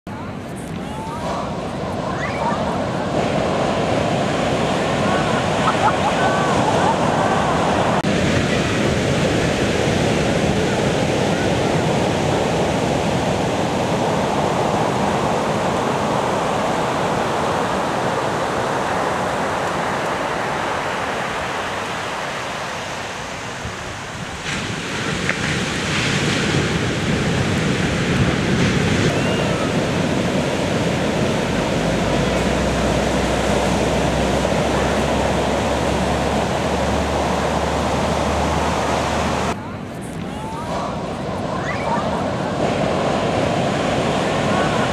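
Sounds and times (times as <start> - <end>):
ocean waves breaking: 0.1 - 44.9.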